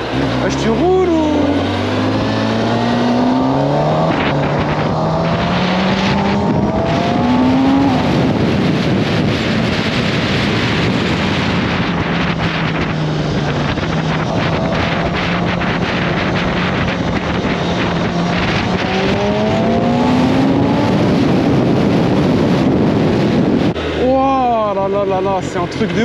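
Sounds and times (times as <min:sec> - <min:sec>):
motorcycle engine revving: 0:00.0 - 0:26.0
wind rushing over microphone: 0:00.0 - 0:26.0.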